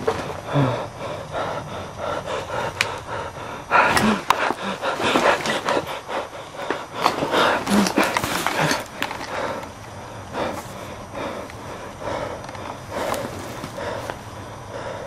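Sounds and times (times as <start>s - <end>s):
person panting and gasping: 0.0s - 15.0s.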